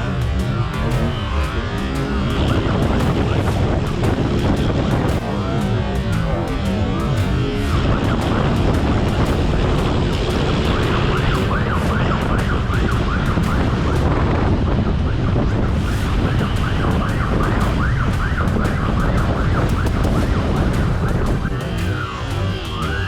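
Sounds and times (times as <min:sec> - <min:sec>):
police siren wailing: 0:00.0 - 0:23.0
wind and vehicle noise: 0:00.0 - 0:23.0.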